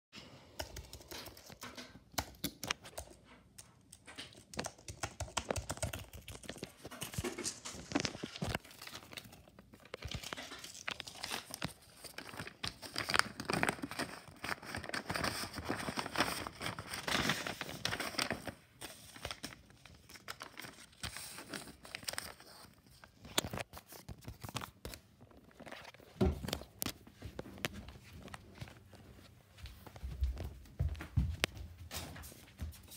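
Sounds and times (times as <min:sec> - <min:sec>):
paper rustling and crinkling: 0:04.0 - 0:32.9.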